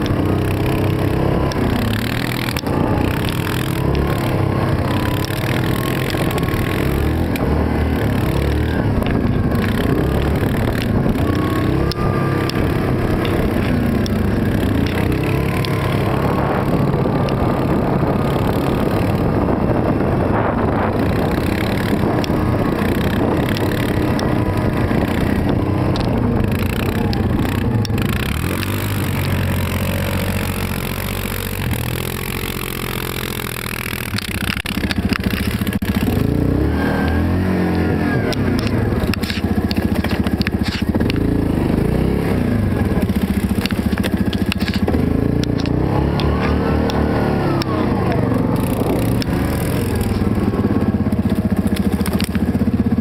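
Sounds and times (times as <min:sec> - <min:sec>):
quad engine running: 0:00.0 - 0:53.0.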